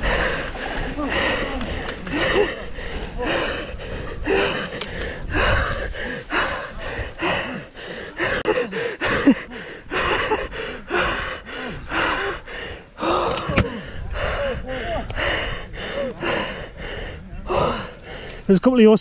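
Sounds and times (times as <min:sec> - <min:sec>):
man panting heavily: 0:00.0 - 0:18.5.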